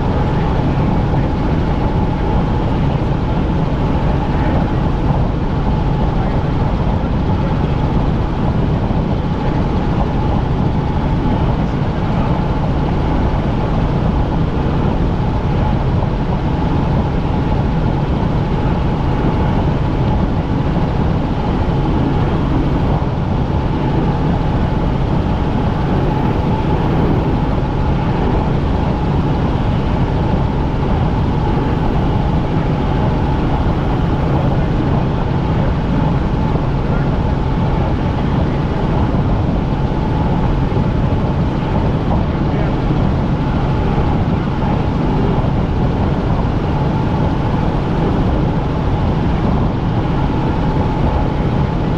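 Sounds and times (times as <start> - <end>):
helicopter engine and rotor drone: 0.0 - 51.9.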